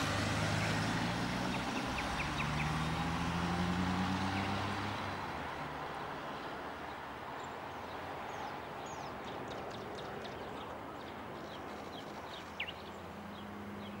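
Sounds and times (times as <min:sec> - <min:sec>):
small birds chirping: 0:00.4 - 0:04.8, 0:06.4 - 0:14.0.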